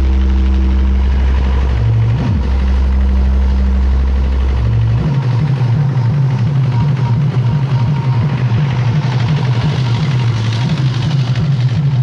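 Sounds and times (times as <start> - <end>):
deep bass tones from speakers: 0.0 - 12.0.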